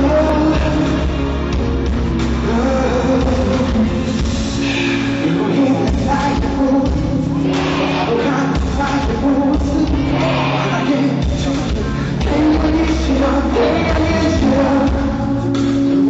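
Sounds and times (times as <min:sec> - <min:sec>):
live pop band: 0:00.0 - 0:16.0
person singing: 0:00.0 - 0:16.0.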